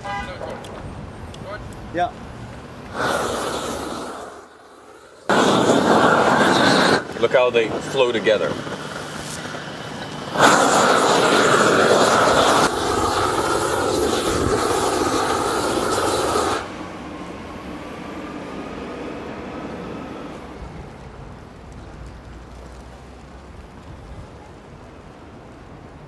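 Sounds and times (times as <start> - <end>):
roofing torch burning: 0.1 - 26.0.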